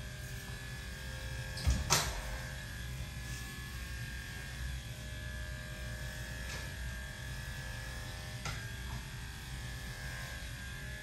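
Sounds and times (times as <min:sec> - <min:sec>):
electric clipper buzzing: 0:00.0 - 0:11.0.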